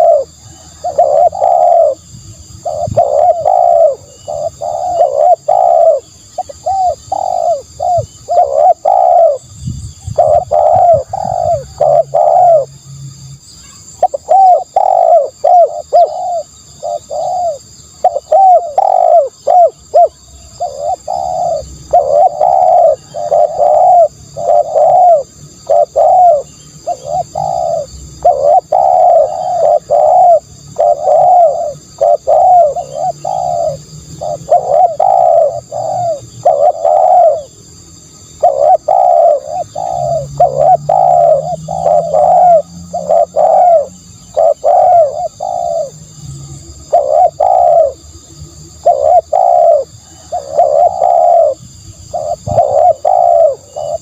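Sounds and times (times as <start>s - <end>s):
dove cooing: 0.0s - 12.8s, 13.8s - 37.6s, 38.2s - 54.0s.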